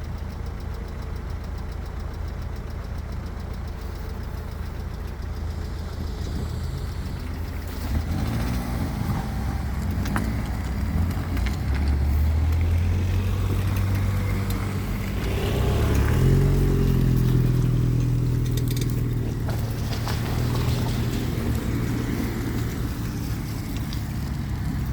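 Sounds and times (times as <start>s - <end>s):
large engine running under load: 0.0s - 24.9s.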